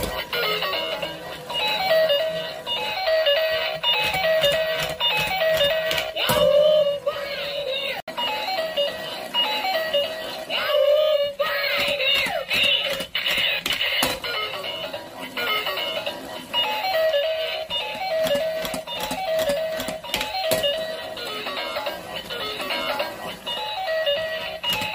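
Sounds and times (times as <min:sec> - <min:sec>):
electronic toy tune: 0:00.1 - 0:07.0, 0:08.2 - 0:13.1, 0:14.2 - 0:24.9.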